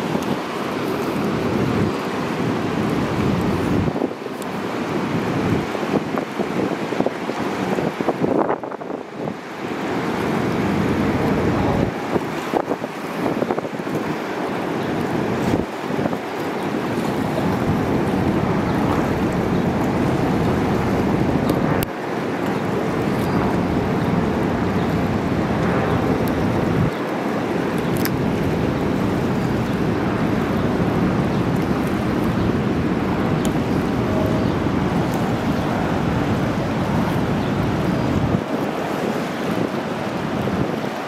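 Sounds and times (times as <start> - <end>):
whitewater rushing: 0.0 - 41.0
wind on microphone: 0.0 - 41.0.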